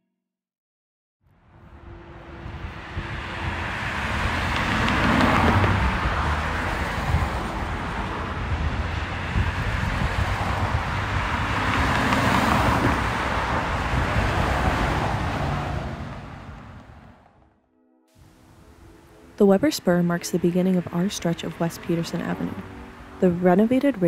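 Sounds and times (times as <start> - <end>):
road traffic: 1.2 - 24.0.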